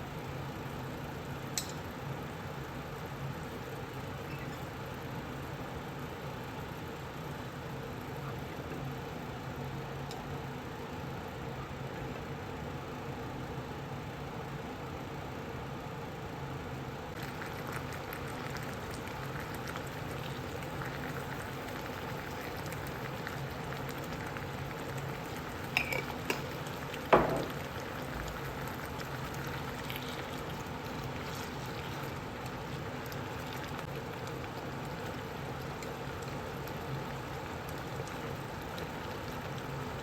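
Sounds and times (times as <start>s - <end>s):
food bubbling in a pot: 0.0s - 40.0s.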